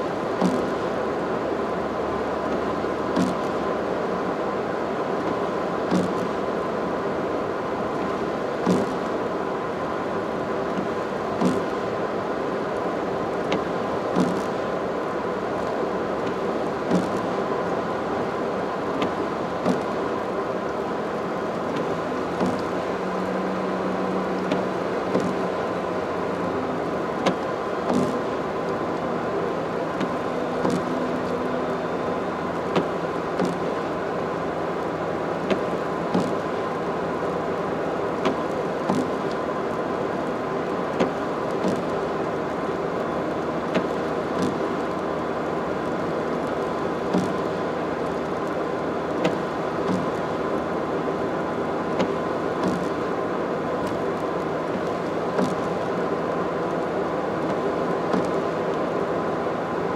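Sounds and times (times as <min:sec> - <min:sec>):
tyre and road noise: 0:00.0 - 0:59.9.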